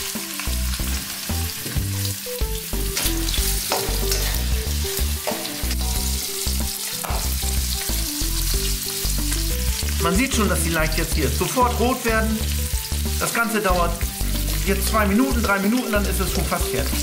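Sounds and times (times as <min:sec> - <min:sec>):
shrimp sizzling in hot oil: 0:00.0 - 0:17.0.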